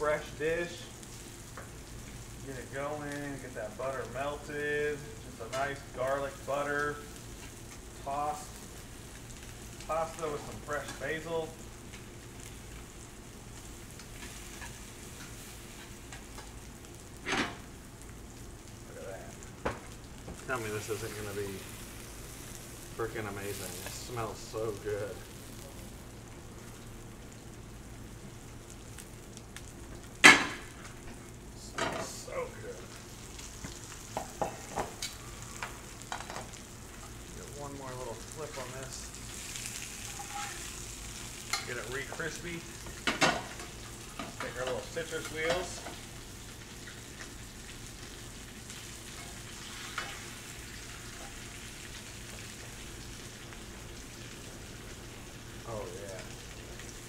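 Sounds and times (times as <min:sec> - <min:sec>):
food sizzling: 0:00.0 - 0:57.0.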